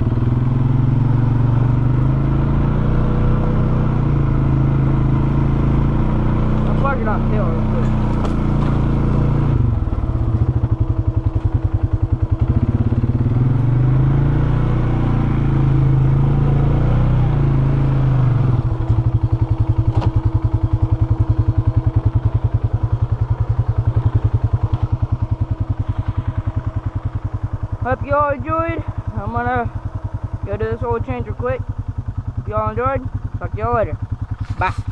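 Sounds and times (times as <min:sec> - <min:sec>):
engine running and idling: 0:00.0 - 0:34.9.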